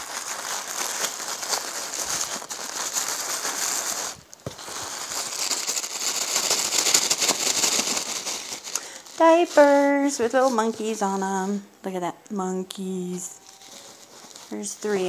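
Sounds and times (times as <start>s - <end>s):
tissue paper rustling: 0.0s - 11.6s, 13.2s - 15.0s.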